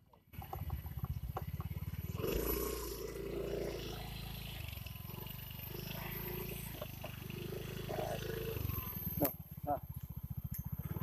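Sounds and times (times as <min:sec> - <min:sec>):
small engine running: 0:00.3 - 0:11.0.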